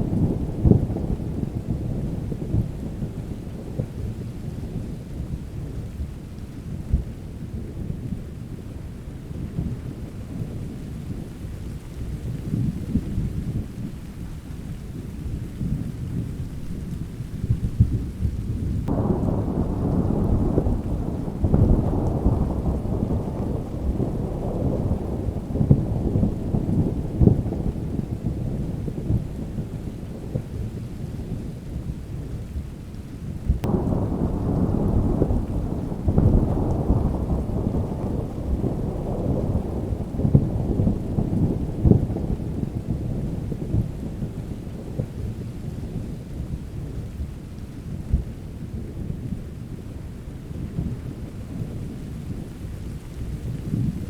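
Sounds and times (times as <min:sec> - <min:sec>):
rolling thunder: 0:00.0 - 0:08.3, 0:15.0 - 0:47.3, 0:47.9 - 0:54.0
steady rain: 0:00.0 - 0:54.0.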